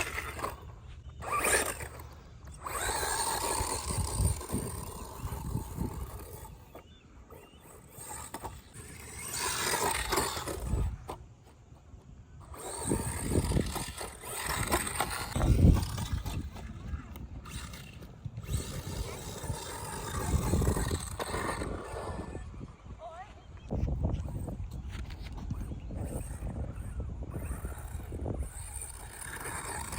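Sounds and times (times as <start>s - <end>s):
rc truck motor whining: 0.0s - 29.9s
tyres on ground: 0.0s - 29.9s.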